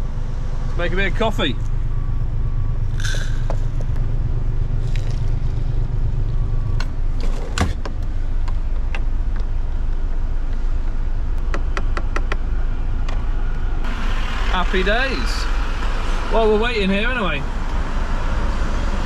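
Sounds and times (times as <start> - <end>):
lorry engine idling: 0.0 - 17.9.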